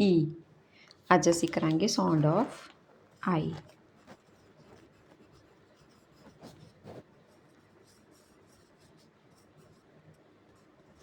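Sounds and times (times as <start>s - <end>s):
pen scratching while writing: 1.3s - 2.7s, 3.3s - 11.0s.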